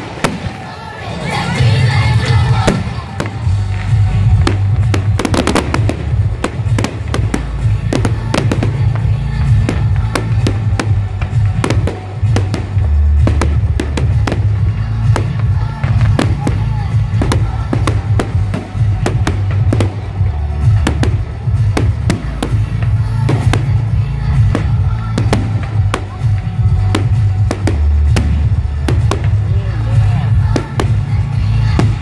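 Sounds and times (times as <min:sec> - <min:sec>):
fireworks bangs and crackling: 0:00.0 - 0:32.0
loud music with strong bass: 0:01.1 - 0:32.0.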